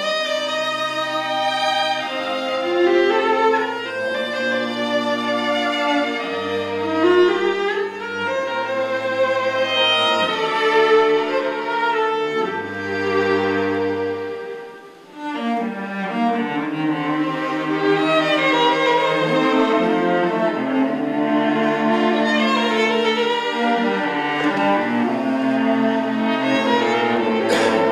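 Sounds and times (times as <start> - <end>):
violin and cello music: 0.0 - 27.9.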